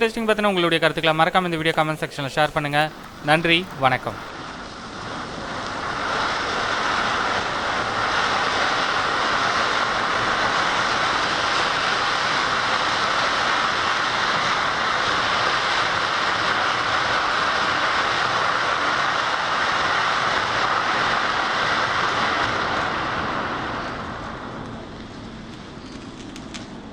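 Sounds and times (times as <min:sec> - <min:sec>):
crackling fountain firework hissing: 0:00.0 - 0:26.9.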